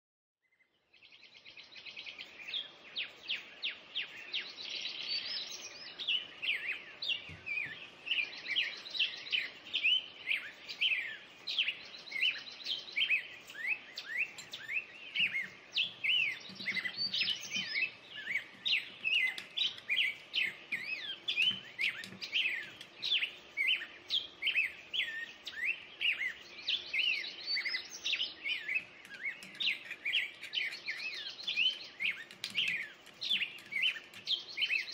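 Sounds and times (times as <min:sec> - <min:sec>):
birds chirping and singing: 0:00.9 - 0:34.9.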